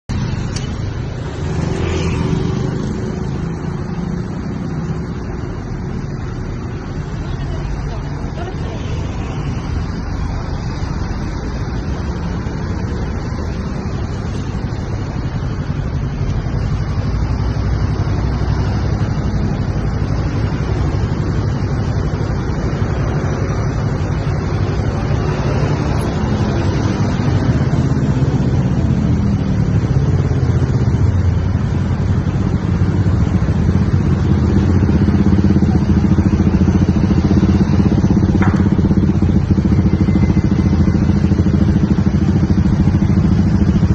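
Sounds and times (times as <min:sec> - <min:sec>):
road noise: 0:00.0 - 0:43.9
bus engine drone: 0:00.1 - 0:43.9.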